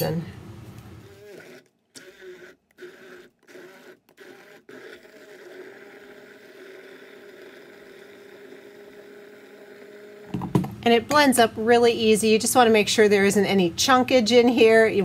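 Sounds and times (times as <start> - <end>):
stick blender motor hum: 0.7 - 12.8.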